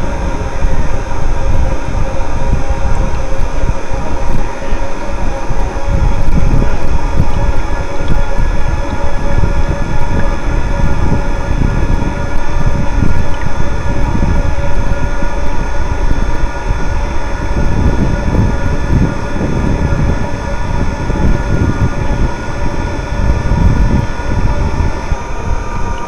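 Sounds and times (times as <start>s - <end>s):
model motors whining: 0.0s - 26.0s
wind buffeting microphone: 0.0s - 26.0s.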